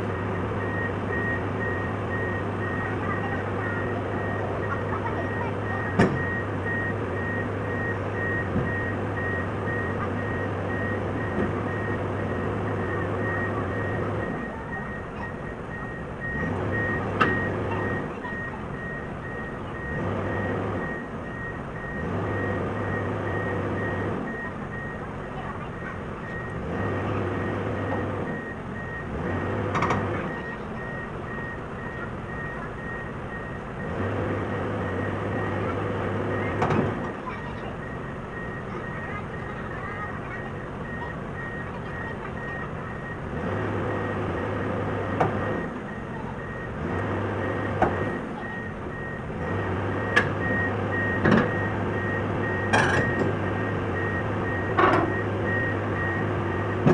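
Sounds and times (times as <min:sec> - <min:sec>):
diesel engine drone: 0:00.0 - 0:56.9
reversing alarm beeping: 0:00.0 - 0:56.9.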